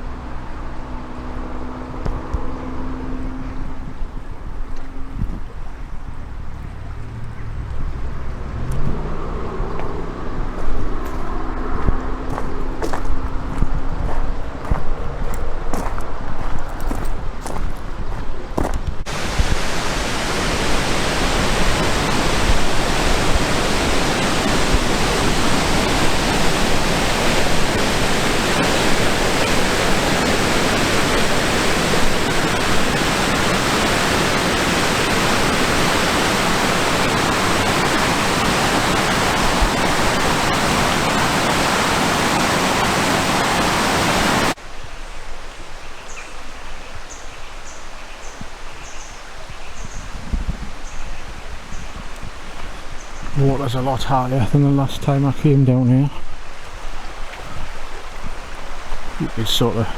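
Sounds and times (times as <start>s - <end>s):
stream rushing: 6.3s - 59.9s.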